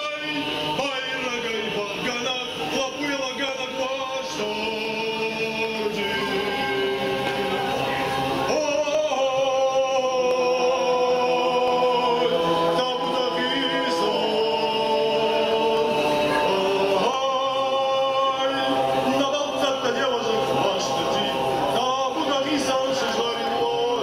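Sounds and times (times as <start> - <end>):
men singing in harmony: 0.0 - 24.0.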